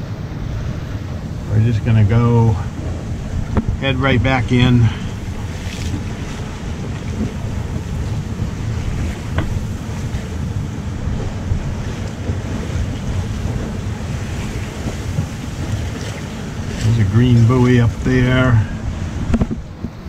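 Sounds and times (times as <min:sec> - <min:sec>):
water rushing past hull: 0:00.0 - 0:20.0
wind noise on microphone: 0:00.0 - 0:20.0.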